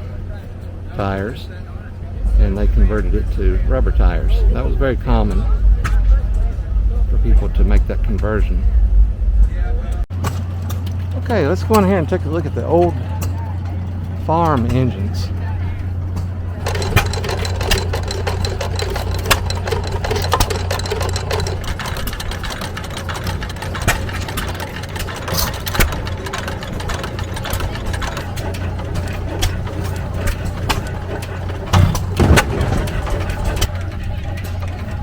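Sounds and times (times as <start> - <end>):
engine drone: 0.0 - 35.0
engine pops and clacks: 1.0 - 35.0.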